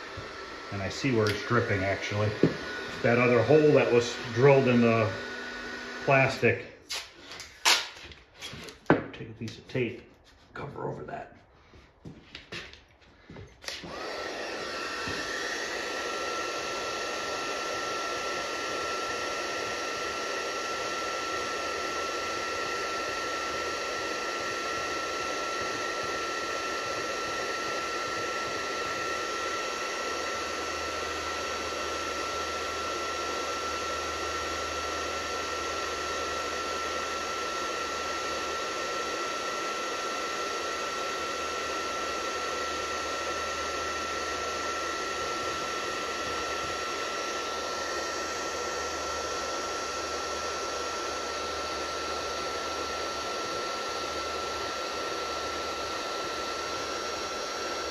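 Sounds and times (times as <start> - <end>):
heat gun fan whining: 0.0 - 10.5, 11.6 - 57.9.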